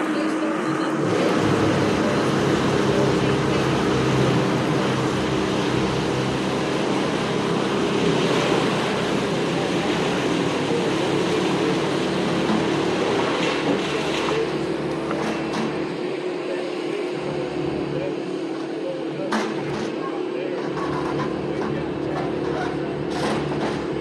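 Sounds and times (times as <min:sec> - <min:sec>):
engine running under load: 0:00.0 - 0:24.0.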